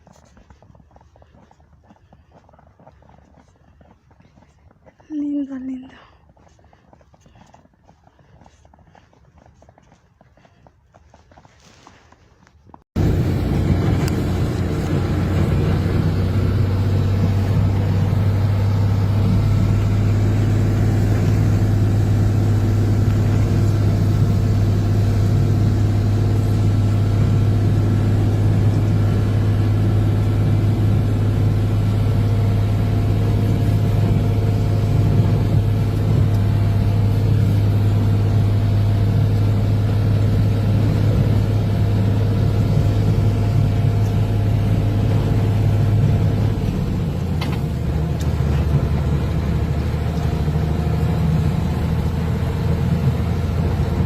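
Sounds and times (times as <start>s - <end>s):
vehicle engine humming steadily: 0.0s - 54.0s.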